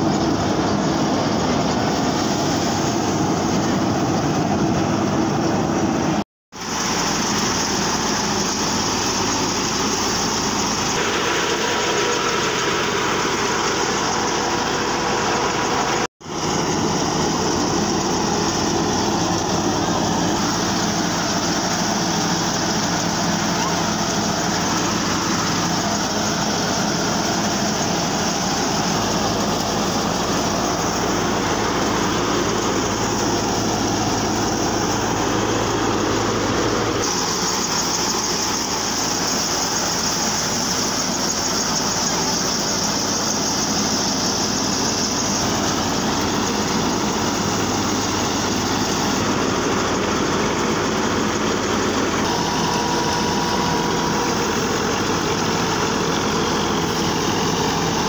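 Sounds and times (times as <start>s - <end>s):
thresher machine hum: 0.0s - 58.0s.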